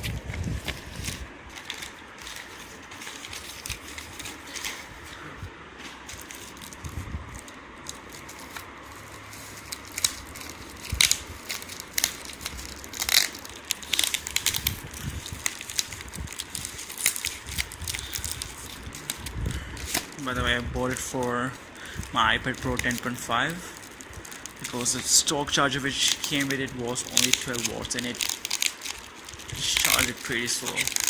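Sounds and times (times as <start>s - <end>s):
packaging clicks and rustles: 0.0s - 31.0s.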